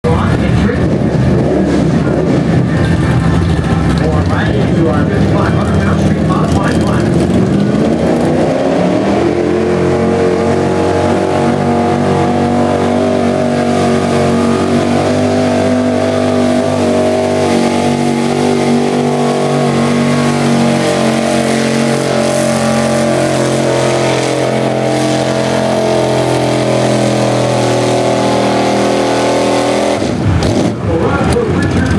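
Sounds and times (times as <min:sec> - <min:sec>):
vehicle engine at high revs: 0:00.0 - 0:31.9.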